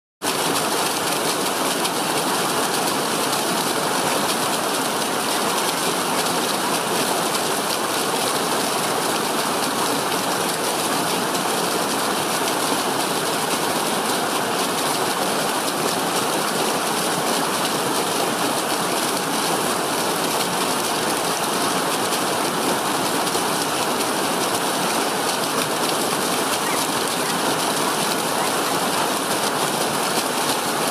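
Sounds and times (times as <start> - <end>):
stream rushing over rocks: 0.2 - 30.9.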